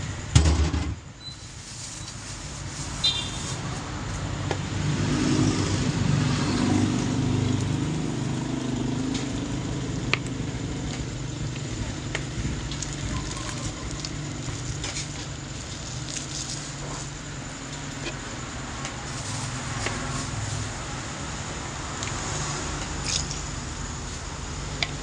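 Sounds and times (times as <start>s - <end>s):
low engine rumble: 1.2s - 25.0s.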